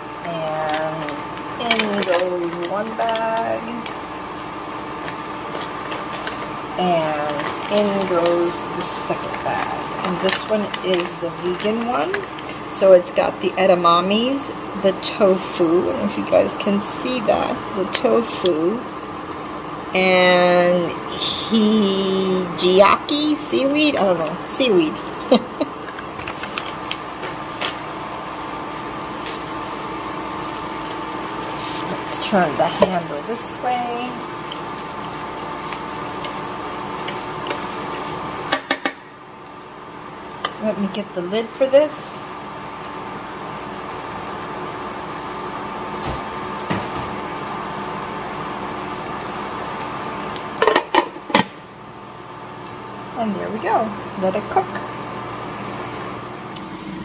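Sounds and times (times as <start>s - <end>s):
appliance fan humming: 0.0s - 57.0s
faint steady whine: 0.0s - 57.0s
vegetables sizzling in a pan: 0.0s - 57.0s.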